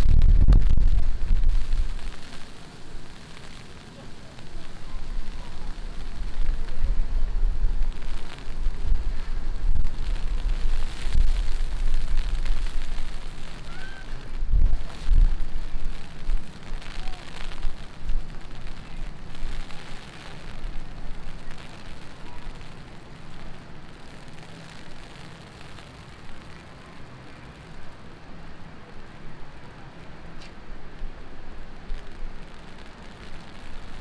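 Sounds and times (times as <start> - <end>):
low rumbles: 0.0 - 28.0
heavy rain on street: 0.0 - 34.0.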